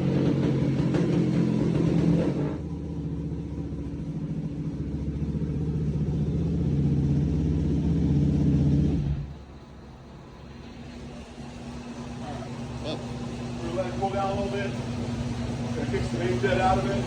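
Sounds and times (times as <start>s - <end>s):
motorcycle engine running hard: 0.0s - 9.3s, 10.8s - 17.0s.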